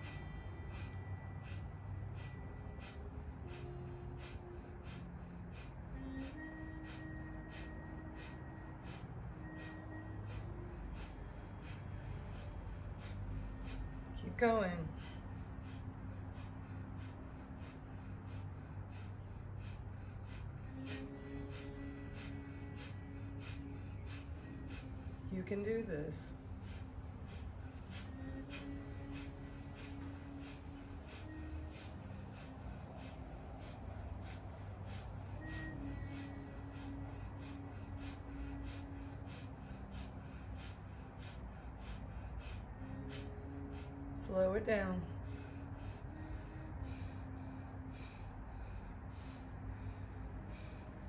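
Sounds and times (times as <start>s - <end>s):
rapid forceful breathing: 0.0s - 51.0s
soft background music: 0.0s - 51.0s
steady low hum: 0.0s - 51.0s.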